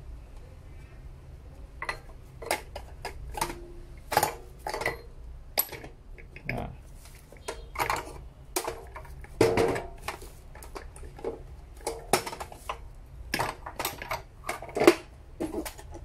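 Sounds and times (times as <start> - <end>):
metal stand clattering and knocking: 1.8 - 6.6, 7.2 - 16.0.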